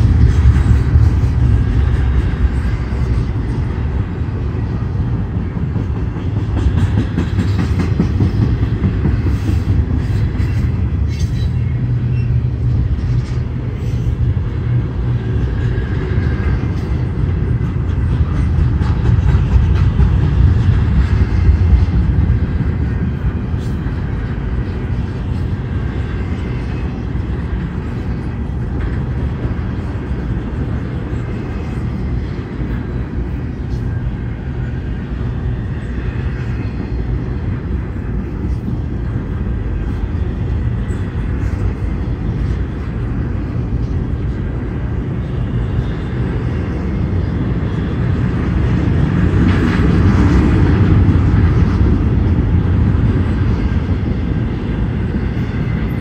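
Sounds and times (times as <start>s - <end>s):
freight train wheels rumbling on rails: 0.0s - 56.0s
sharp clicks of train wheels: 0.0s - 56.0s.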